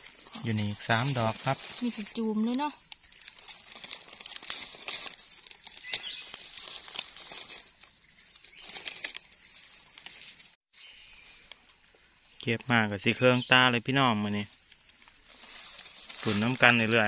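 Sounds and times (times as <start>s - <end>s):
dry leaves rustling: 0.0s - 11.6s, 14.3s - 17.0s.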